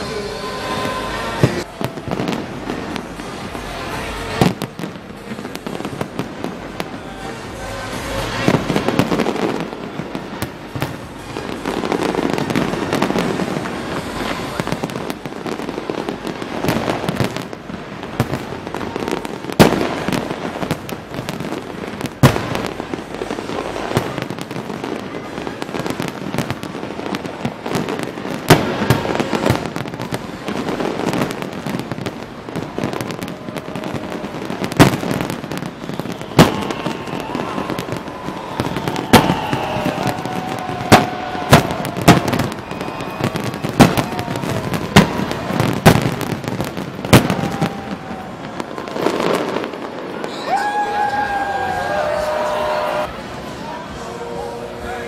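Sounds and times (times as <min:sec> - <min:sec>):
loud firework bangs: 0:00.0 - 0:53.2
fireworks bangs and crackling: 0:00.0 - 0:55.0.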